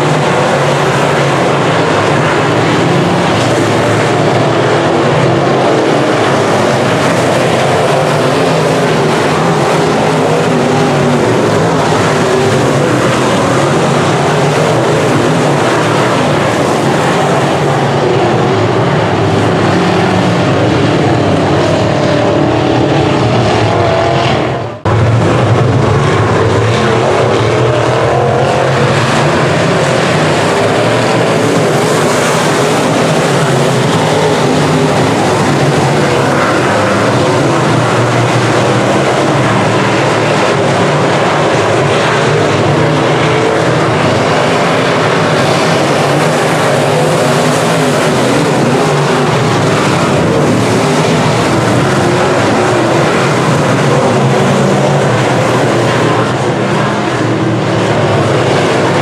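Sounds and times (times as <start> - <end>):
race car engines running: 0.0 - 59.0.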